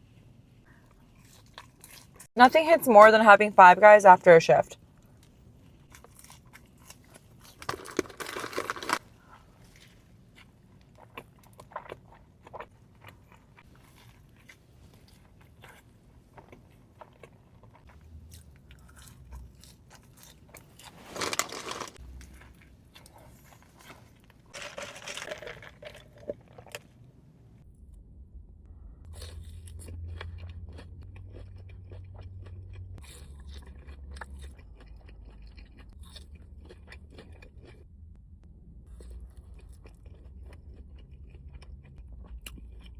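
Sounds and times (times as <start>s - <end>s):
person chewing food: 0.8s - 2.3s, 5.0s - 26.8s, 29.0s - 37.9s, 38.8s - 42.9s.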